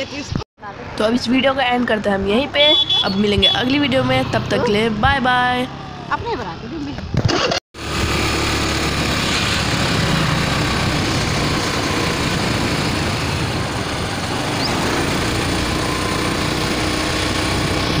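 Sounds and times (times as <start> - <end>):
road noise: 0.0 - 18.0
motorcycle engine running: 2.7 - 18.0.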